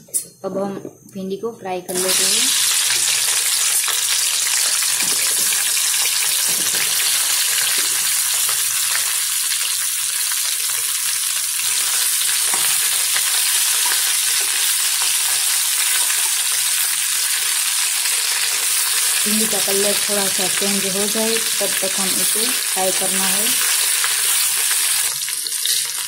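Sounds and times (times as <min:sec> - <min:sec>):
okra sizzling in hot oil: 0:01.9 - 0:26.0.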